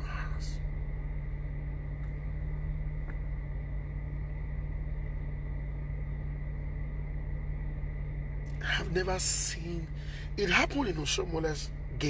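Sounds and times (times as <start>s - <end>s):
car engine drone inside cabin: 0.0s - 12.0s
faint high whine: 0.0s - 12.0s.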